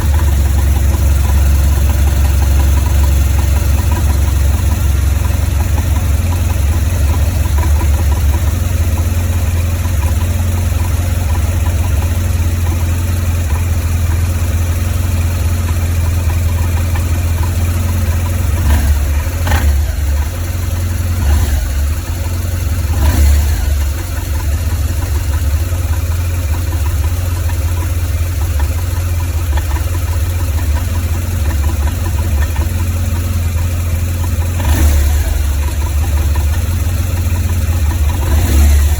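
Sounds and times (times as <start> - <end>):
motorcycle engine idling roughly: 0.0 - 38.9.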